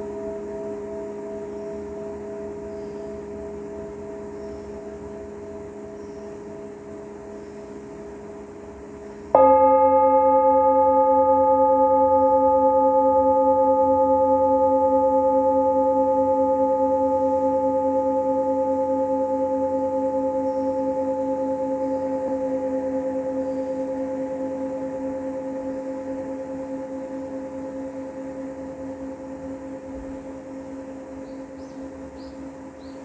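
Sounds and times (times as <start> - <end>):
singing bowl ringing: 0.0 - 33.0.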